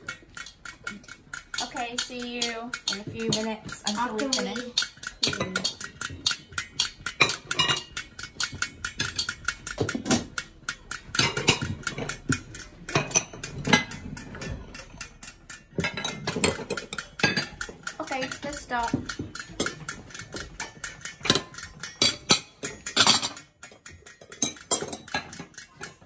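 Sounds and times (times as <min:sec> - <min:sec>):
plates and cutlery clattering: 0:02.0 - 0:26.0.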